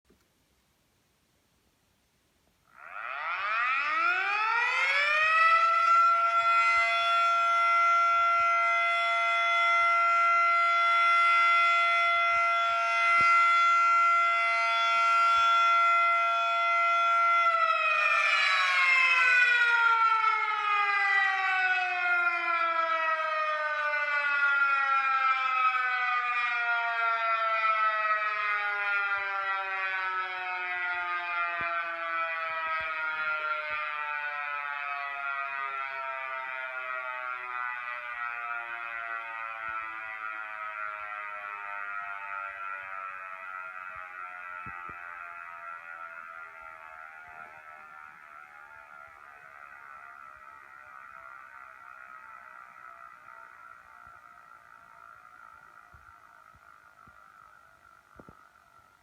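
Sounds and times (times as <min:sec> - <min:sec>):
fire siren: 0:02.6 - 0:59.0.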